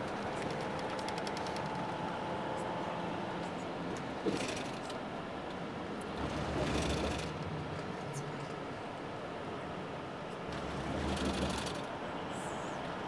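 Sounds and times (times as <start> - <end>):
road and engine noise inside vehicle: 0.0 - 13.0.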